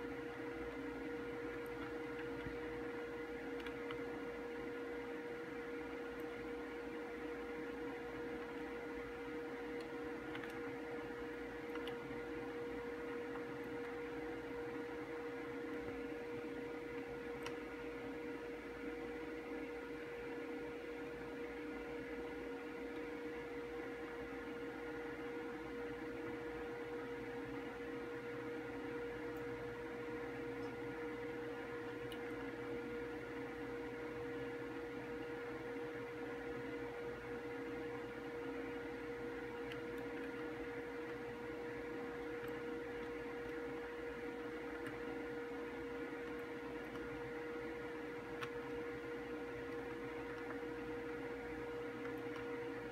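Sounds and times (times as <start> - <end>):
electrical hum with high tone: 0.0 - 52.9.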